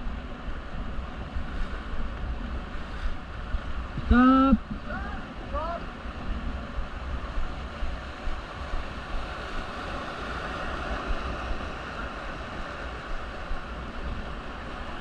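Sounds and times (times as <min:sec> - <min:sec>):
wind buffeting microphone: 0:00.0 - 0:15.0
river water rushing: 0:00.1 - 0:15.0.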